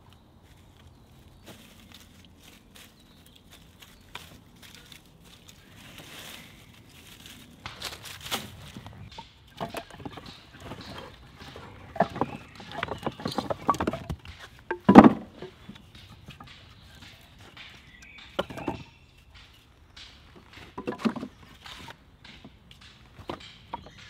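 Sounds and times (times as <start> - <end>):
firewood logs knocking together: 0.5 - 24.0.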